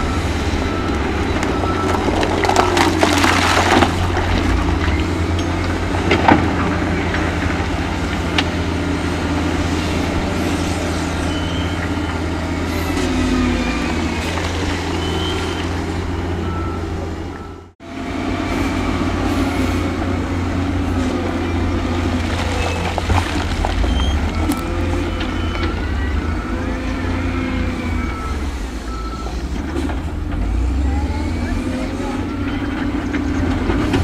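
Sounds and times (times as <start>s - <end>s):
diesel machinery engine hum: 0.0s - 34.0s.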